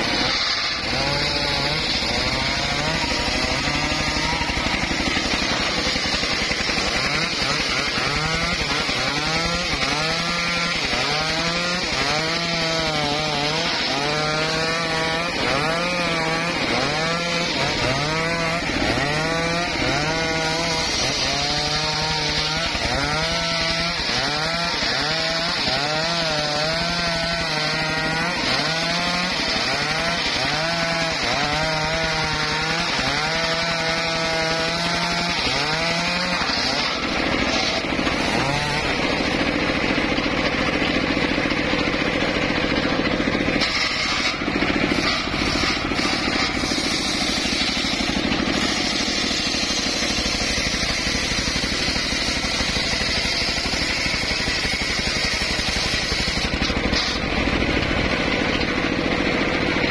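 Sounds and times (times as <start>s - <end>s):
circular saw cutting wood: 0.0s - 59.9s.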